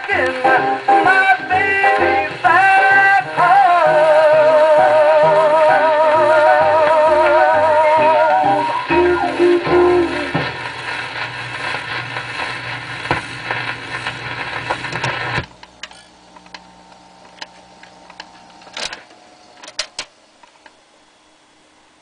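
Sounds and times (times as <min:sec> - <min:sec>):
record stylus hiss and clicks: 0:00.0 - 0:20.8
record changer humming: 0:00.0 - 0:22.0.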